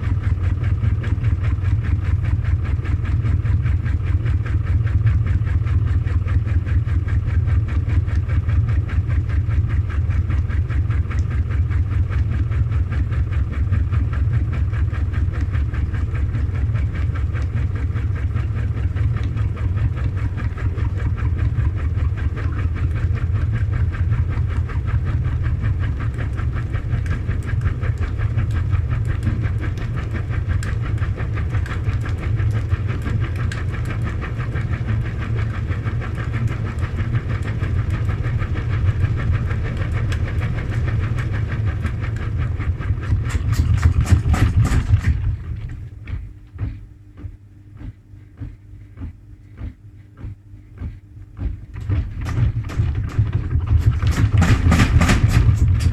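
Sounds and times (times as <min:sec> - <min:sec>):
faint hum: 0:00.0 - 0:55.9
thumps from slowing drum: 0:00.0 - 0:55.9
washing machine drum rumbling: 0:00.0 - 0:55.9.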